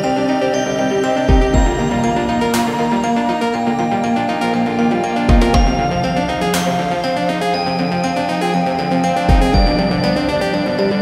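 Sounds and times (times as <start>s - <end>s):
electronic music sustained tones: 0.0s - 11.0s.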